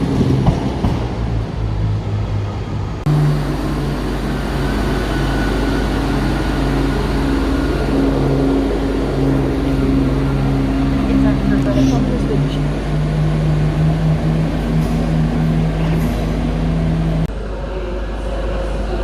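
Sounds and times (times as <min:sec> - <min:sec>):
diesel train engine idling: 0:00.0 - 0:19.0
train on rails: 0:00.0 - 0:19.0.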